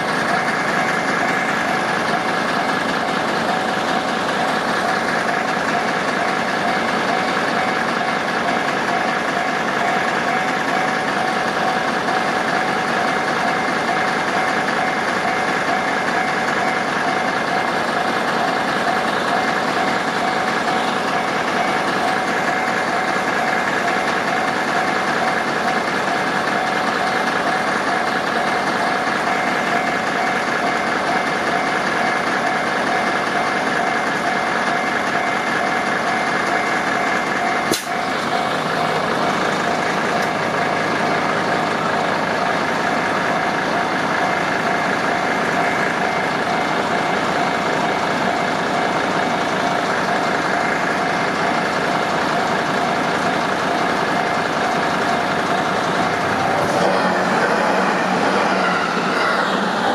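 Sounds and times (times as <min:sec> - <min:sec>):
level-crossing alarm clanging: 0:00.0 - 0:59.9
vehicle engine idling: 0:00.0 - 0:59.9.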